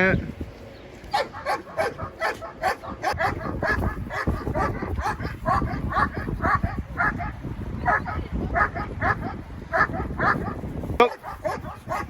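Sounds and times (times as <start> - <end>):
dog barking rapidly: 1.1 - 12.0.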